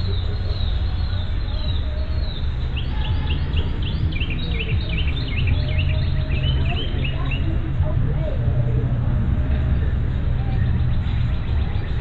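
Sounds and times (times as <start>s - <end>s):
songbird chirping: 0.0s - 12.0s
steady low rumble: 0.0s - 12.0s.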